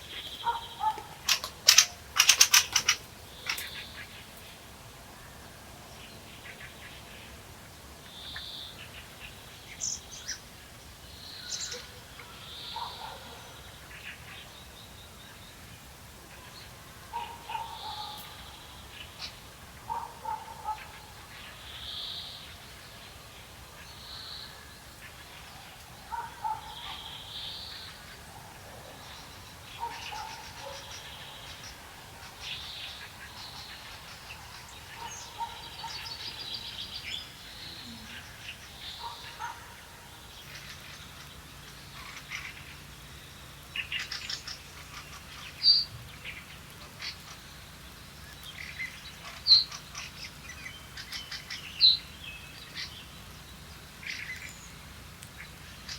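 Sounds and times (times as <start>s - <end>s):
birds chirping and trilling: 0.0s - 4.6s, 11.1s - 15.5s, 16.4s - 23.1s, 23.8s - 55.9s.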